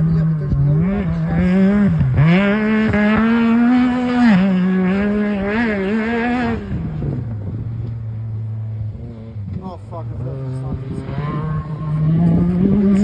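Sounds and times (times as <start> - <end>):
engine revving at high revs: 0.0 - 13.0.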